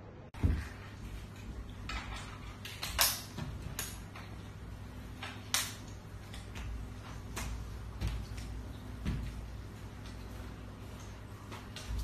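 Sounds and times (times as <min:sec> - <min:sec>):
low room tone hum: 0:00.0 - 0:12.0.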